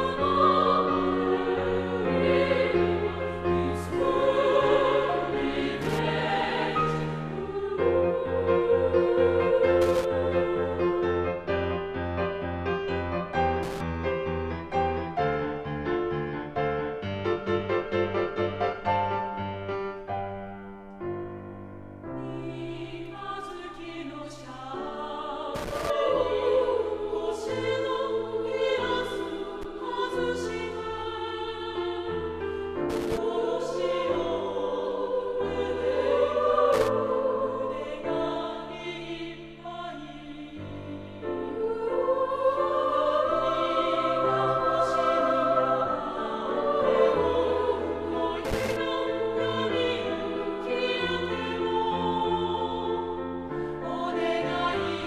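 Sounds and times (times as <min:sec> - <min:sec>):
women's chorus singing: 0:00.0 - 0:11.8, 0:22.2 - 0:55.0.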